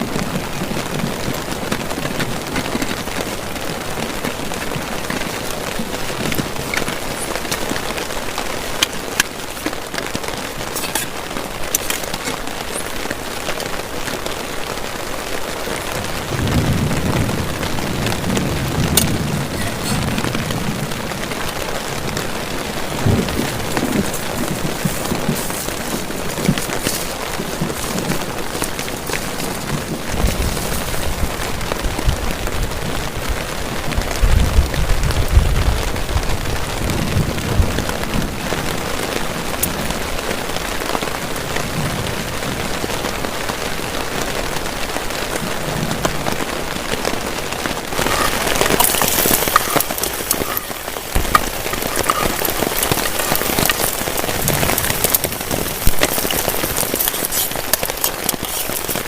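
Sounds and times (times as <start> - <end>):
heavy rain on a tarp: 0.0 - 59.0
thunder rumbling: 0.0 - 59.0.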